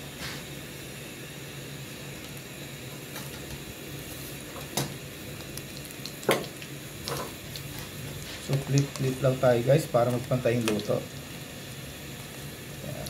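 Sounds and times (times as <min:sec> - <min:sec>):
bread deep-frying in hot oil: 0:00.0 - 0:13.0.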